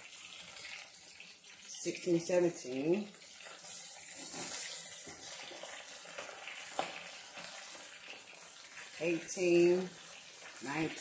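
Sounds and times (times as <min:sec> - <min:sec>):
shrimp deep-frying in oil: 0:00.0 - 0:11.0.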